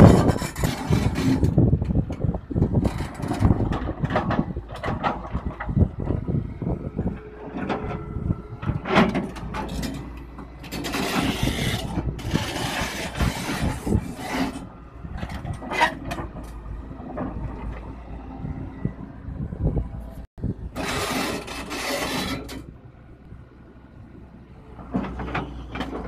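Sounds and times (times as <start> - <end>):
excavator hydraulics running: 0.0 - 19.2, 20.0 - 22.7, 24.6 - 26.0.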